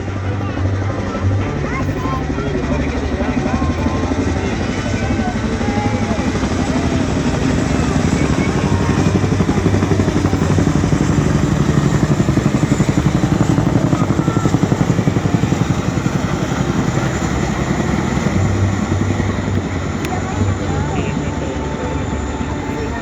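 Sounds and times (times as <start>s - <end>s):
helicopter rotors beating: 0.0s - 23.0s.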